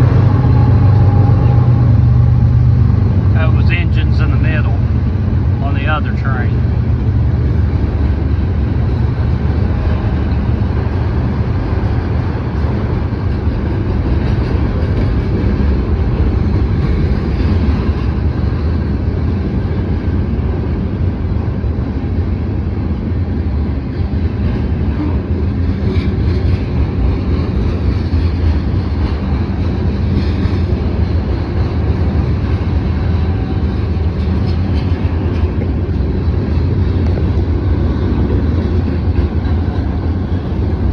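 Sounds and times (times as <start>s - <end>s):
freight train cars rolling past: 0.0s - 40.9s.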